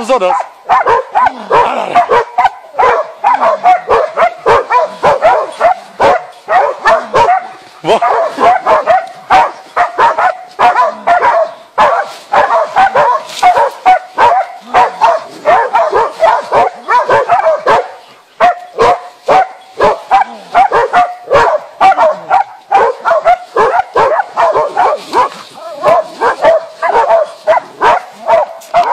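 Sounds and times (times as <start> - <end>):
dog barking rapidly with yips: 0.2 - 28.9.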